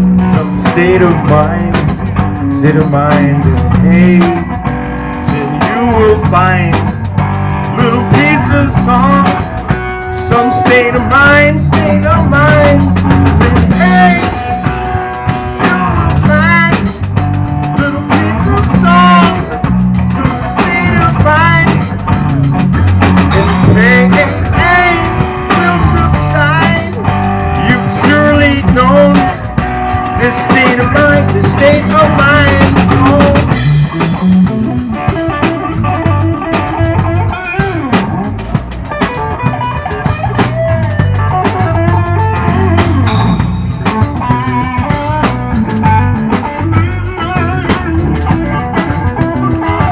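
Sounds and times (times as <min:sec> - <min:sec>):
drum kit: 0:00.0 - 0:49.9
electric guitar lead: 0:00.0 - 0:49.9
low bass line: 0:00.0 - 0:49.9.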